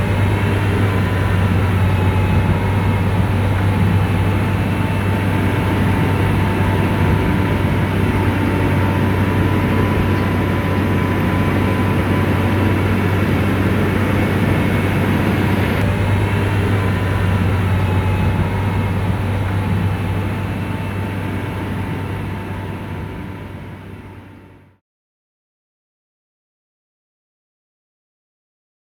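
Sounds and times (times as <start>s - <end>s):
bulldozer diesel engine humming: 0.0s - 24.8s.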